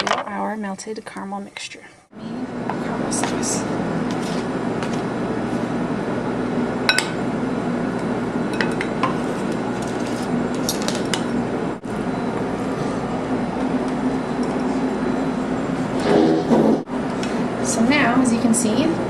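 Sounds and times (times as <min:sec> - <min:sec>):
steady background hum: 0:00.4 - 0:19.0.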